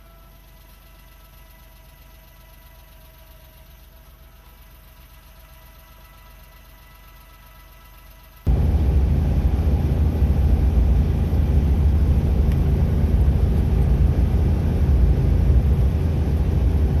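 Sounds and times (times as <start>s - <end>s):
loud low engine rumble: 0.0s - 17.0s.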